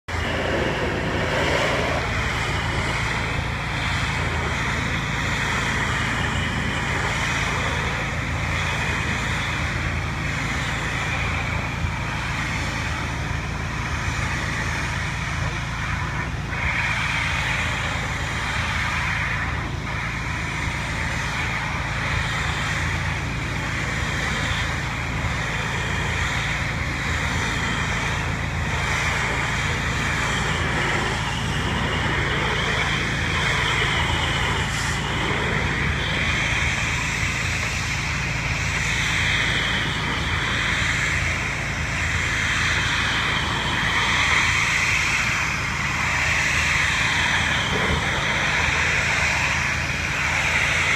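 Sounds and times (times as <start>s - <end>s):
pressure washer running: 0.0s - 50.9s
water spray hissing: 0.1s - 50.9s.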